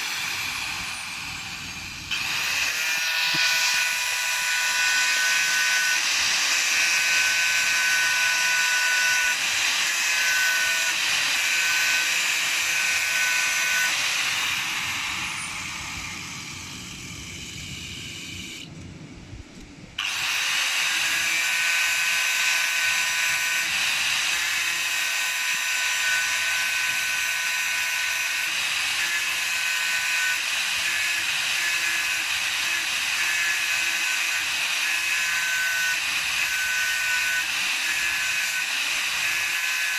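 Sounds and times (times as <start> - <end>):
electric power tool whining: 0.0 - 18.8, 20.0 - 39.9.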